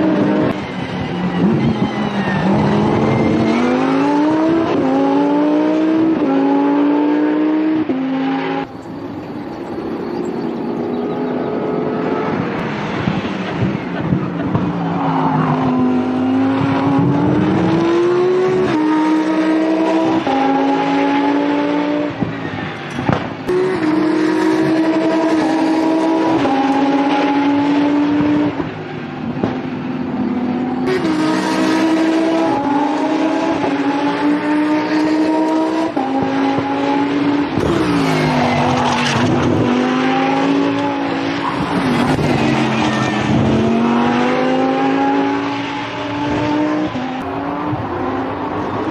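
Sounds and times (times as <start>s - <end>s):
car engine running hard: 0.0s - 48.9s.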